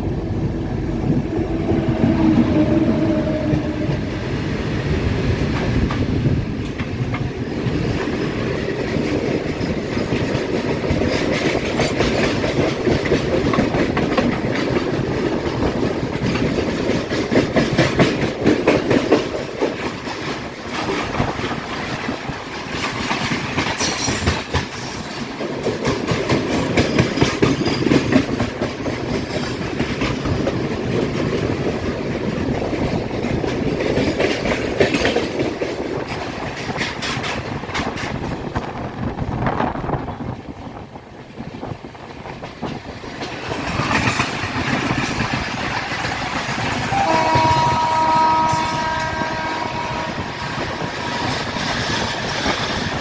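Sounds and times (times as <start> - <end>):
train rumbling: 0.0 - 53.0
wheels clacking over rail joints: 5.3 - 49.6.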